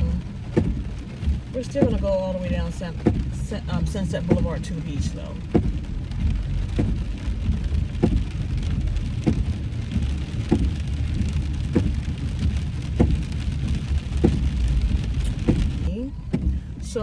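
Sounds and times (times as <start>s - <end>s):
rain on car: 0.0s - 17.0s
road noise inside car: 0.0s - 17.0s
windshield wipers sweeping: 0.0s - 17.0s.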